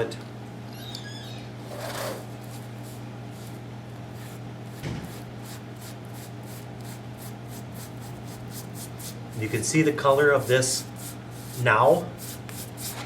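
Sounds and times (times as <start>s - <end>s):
steady low hum: 0.0s - 13.0s
rubbing or scraping strokes: 1.6s - 13.0s.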